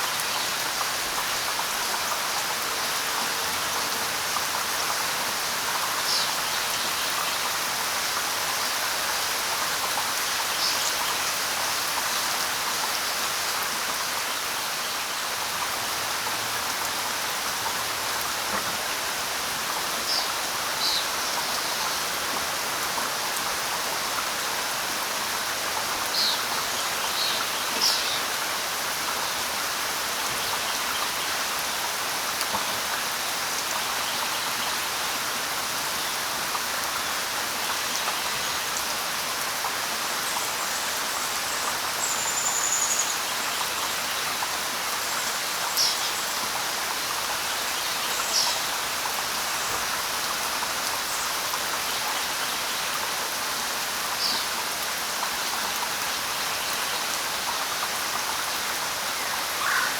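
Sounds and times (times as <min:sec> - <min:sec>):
light rain on leaves: 0:00.0 - 0:59.9.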